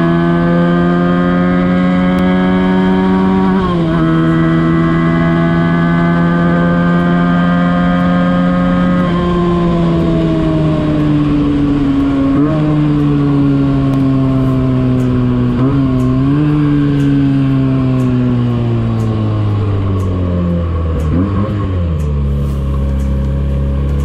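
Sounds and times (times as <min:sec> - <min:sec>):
motorcycle engine at high revs: 0:00.0 - 0:24.0.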